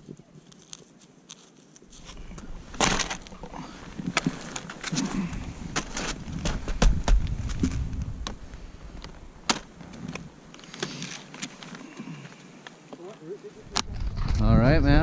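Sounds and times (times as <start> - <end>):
skis and poles clicking: 0.4 - 14.4.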